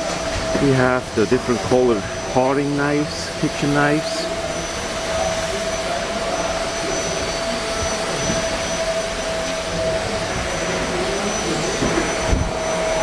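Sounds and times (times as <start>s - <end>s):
constant hum: 0.0s - 13.0s
faint indistinct voices: 0.4s - 13.0s.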